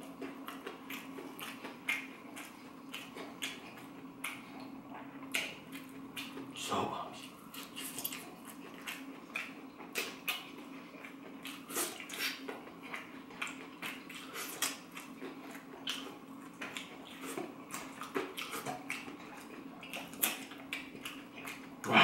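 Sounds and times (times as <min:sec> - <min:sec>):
wet chewing: 0:00.0 - 0:22.0
lip smacks: 0:00.2 - 0:06.5, 0:07.2 - 0:22.0.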